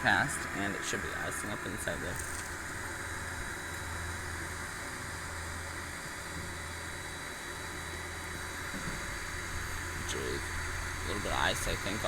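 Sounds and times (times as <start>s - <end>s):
compressor hum: 0.0s - 12.0s
fan rushing: 0.0s - 12.0s.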